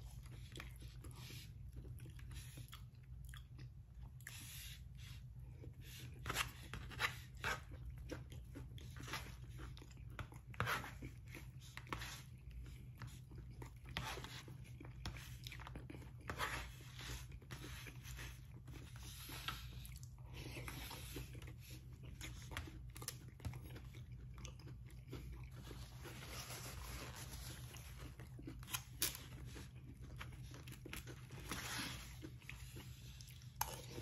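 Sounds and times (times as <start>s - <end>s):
man chewing food: 0.0s - 34.0s.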